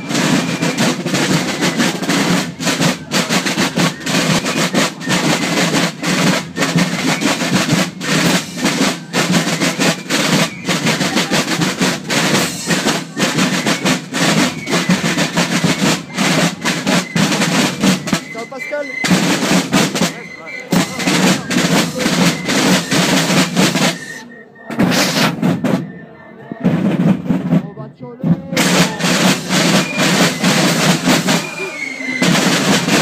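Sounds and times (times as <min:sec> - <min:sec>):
marching field drums with rolls: 0:00.0 - 0:33.0.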